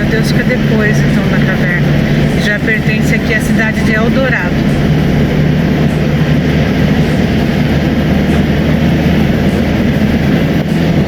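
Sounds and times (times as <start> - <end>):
tyre and road noise: 0.0 - 11.0
vehicle engine drone: 0.0 - 11.0.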